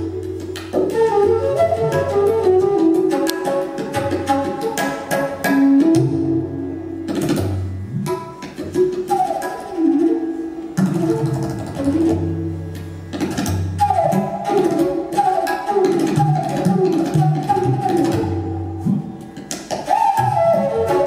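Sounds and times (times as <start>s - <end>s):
bamboo flute melody: 0.0s - 21.0s
tabla drum strokes: 0.0s - 21.0s.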